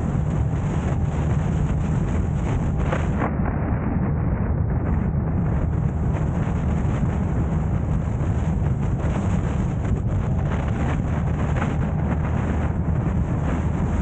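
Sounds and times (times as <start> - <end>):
car road and engine rumble: 0.0 - 3.3, 4.9 - 14.0
wind buffeting microphone: 0.0 - 14.0.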